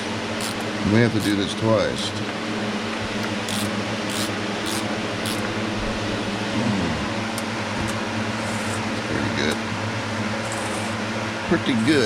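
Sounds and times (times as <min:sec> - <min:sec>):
background fan hum: 0:00.0 - 0:12.0.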